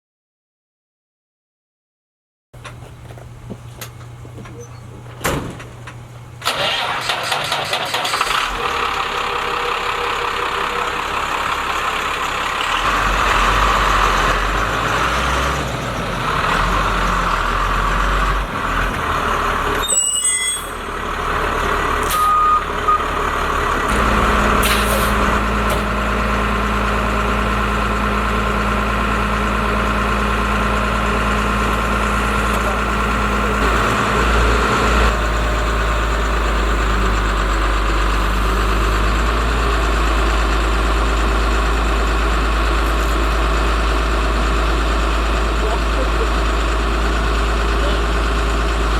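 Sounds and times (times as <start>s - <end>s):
truck engine starting and idling: 2.6s - 48.9s.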